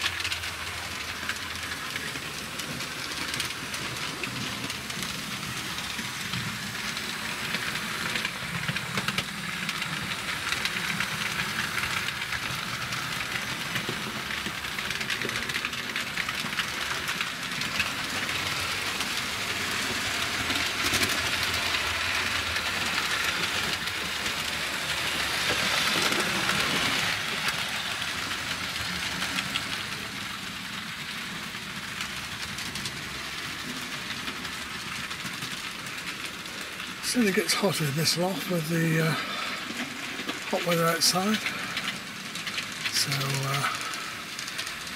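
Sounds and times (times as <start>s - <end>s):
model train wheels rattling: 0.0s - 44.9s.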